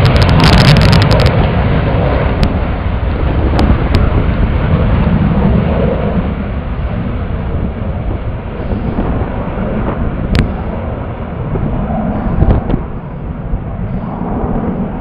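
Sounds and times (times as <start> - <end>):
jet engines at takeoff: 0.0 - 15.0
wind buffeting microphone: 0.0 - 15.0.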